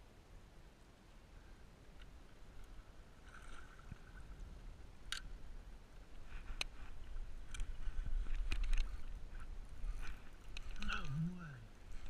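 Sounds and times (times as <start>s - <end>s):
wind rumbling on microphone: 1.4s - 12.0s.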